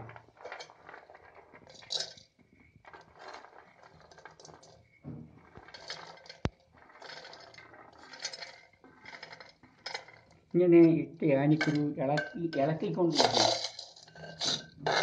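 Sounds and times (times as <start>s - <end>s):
seeds scraping and rattling: 0.0s - 10.5s, 12.9s - 15.0s.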